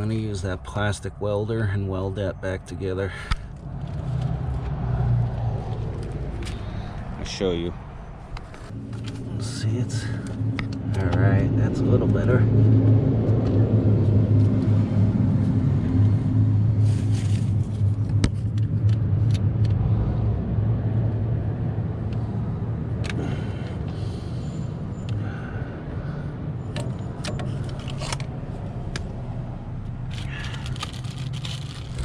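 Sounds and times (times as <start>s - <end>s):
engine-like low hum: 0.0s - 32.0s.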